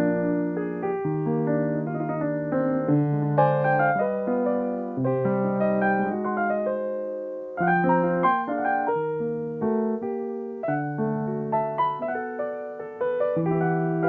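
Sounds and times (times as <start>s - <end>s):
slow piano chords and melody: 0.0s - 14.0s.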